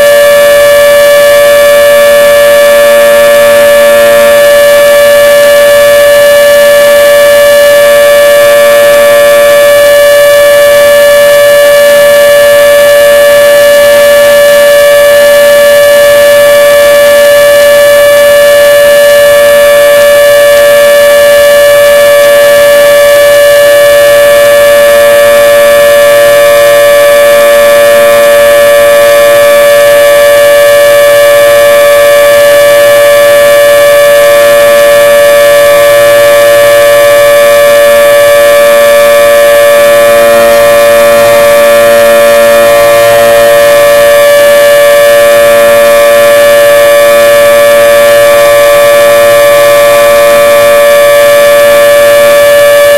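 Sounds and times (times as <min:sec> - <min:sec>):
dual-tone warning siren: 0:00.0 - 0:52.9.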